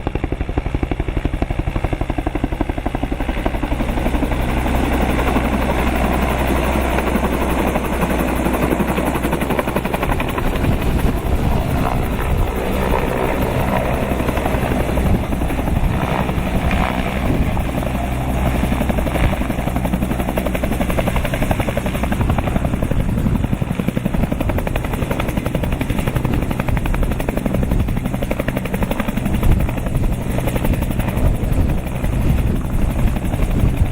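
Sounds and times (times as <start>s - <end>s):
helicopter rotor chopping: 0.0s - 33.9s
turbine whine: 3.4s - 33.9s.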